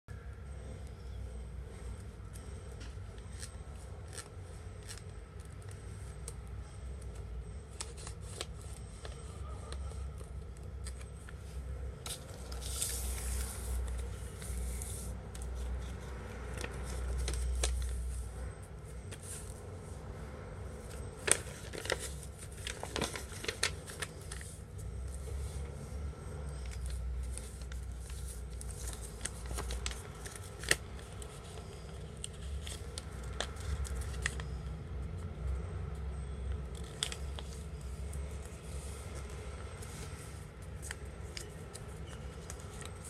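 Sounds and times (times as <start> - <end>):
paper crinkling and rustling: 7.0 - 19.7, 20.8 - 43.0.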